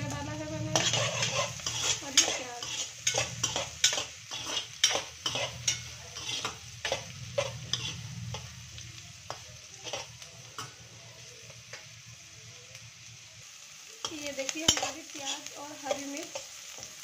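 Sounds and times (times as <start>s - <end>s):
metal spatula scraping a pan: 0.0s - 11.0s, 14.0s - 17.0s
onion sizzling in oil: 0.0s - 17.0s.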